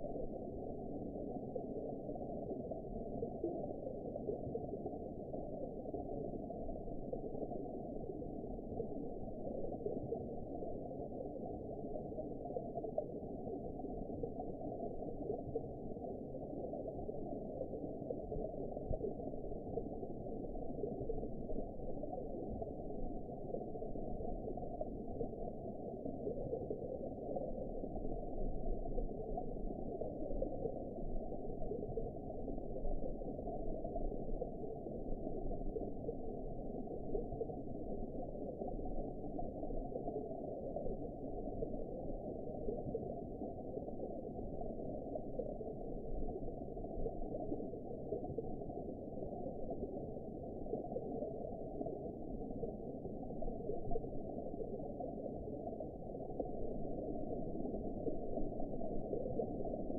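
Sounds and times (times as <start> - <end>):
muffled low underwater rushing: 0.0 - 59.9.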